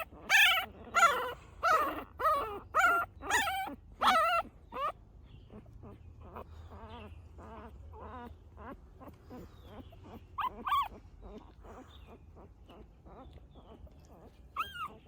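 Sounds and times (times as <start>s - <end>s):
puppies whimpering and squealing: 0.0s - 15.0s.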